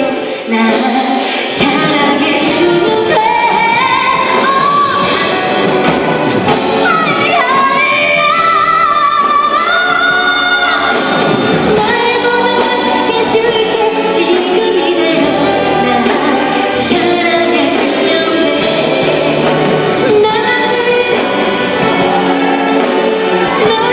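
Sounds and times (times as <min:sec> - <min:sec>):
woman singing pop song: 0:00.0 - 0:05.9, 0:06.5 - 0:23.9
orchestral accompaniment: 0:02.2 - 0:23.9.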